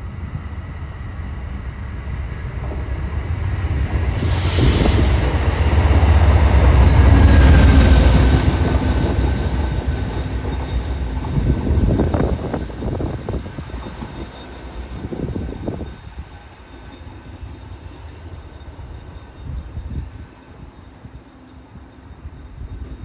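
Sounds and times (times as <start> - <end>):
passenger train rumbling past: 0.0 - 23.0.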